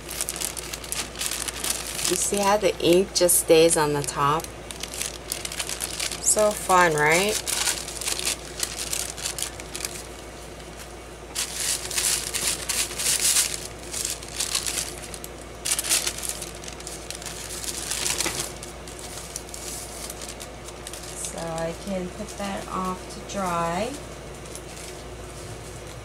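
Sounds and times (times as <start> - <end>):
stiff paper rustling and crinkling: 0.0 - 26.0.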